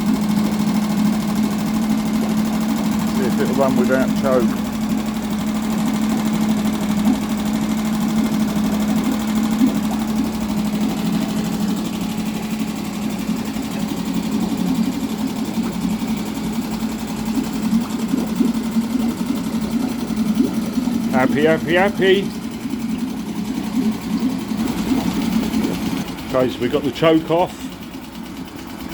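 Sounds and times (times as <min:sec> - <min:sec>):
outboard motor idling: 0:00.0 - 0:28.9.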